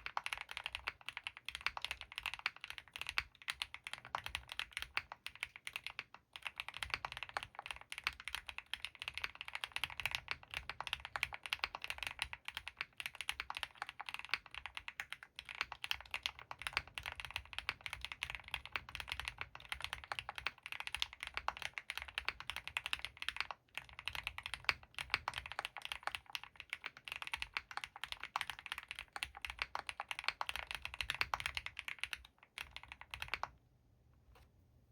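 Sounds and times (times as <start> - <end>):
fast typing on mechanical keyboard: 0.0 - 33.6.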